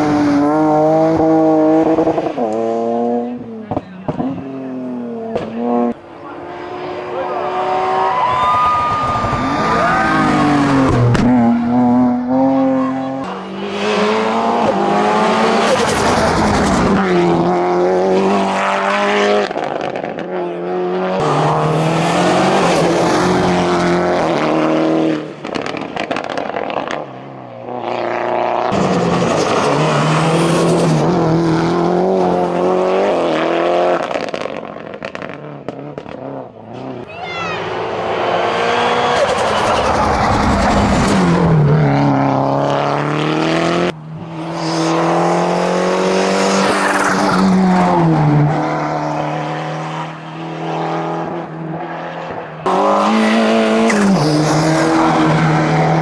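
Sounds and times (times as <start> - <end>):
car engine revving at full throttle: 0.0 - 56.0.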